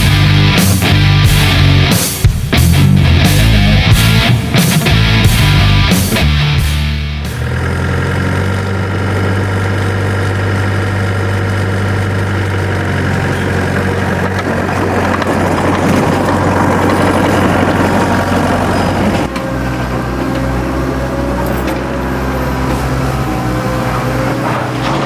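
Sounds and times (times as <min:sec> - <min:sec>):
heavy engine idling: 0:00.0 - 0:25.0.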